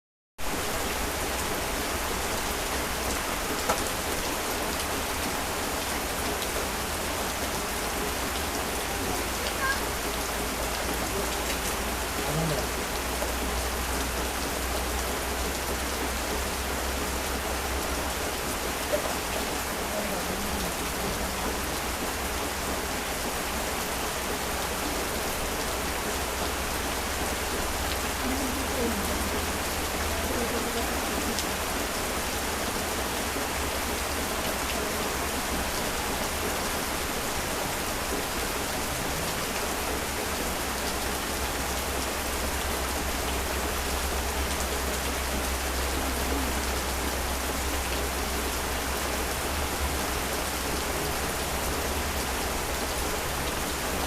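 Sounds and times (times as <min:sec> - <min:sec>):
heavy rain hissing: 0:00.4 - 0:54.0.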